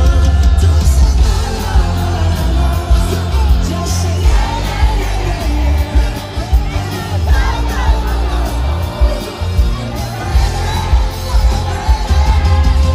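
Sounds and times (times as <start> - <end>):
crowd yelling and shouting: 0.0 - 12.9
live pop band playing: 0.0 - 12.9
person singing: 0.0 - 12.9.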